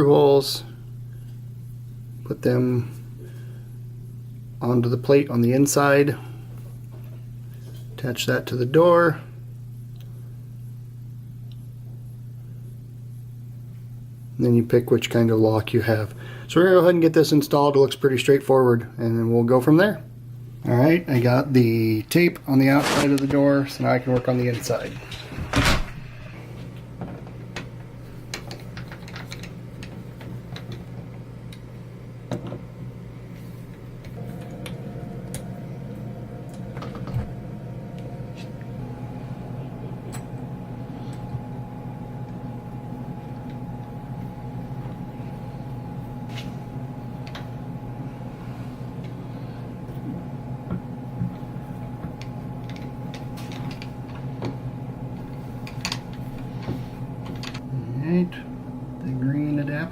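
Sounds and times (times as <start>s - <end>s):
low hum: 0.0s - 16.8s, 19.0s - 59.9s.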